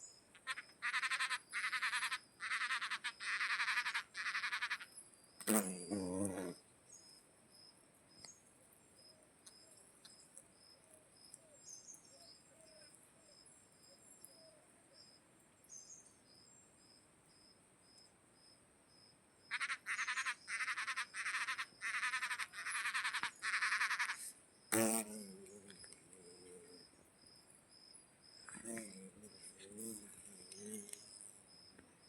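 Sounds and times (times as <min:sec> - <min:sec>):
insects and frogs calling: 0:00.0 - 0:08.4, 0:09.0 - 0:32.0.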